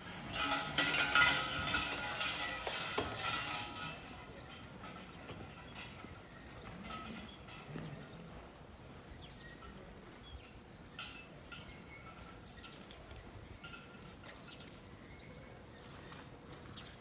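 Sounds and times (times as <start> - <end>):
low steady street hum: 0.0 - 17.0.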